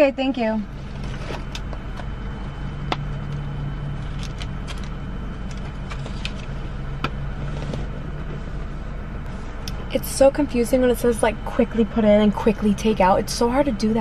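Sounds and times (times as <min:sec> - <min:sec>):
car idling hum: 0:00.0 - 0:14.0.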